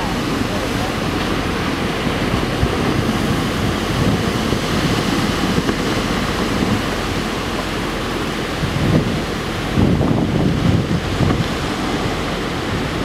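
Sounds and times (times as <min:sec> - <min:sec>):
sea water rushing: 0:00.0 - 0:13.0
wind: 0:00.0 - 0:13.0.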